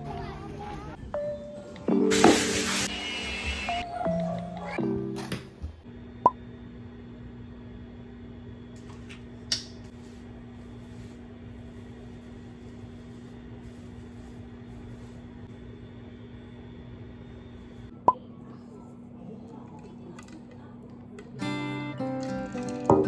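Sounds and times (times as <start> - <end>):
appliance electrical hum: 0.0 - 23.0.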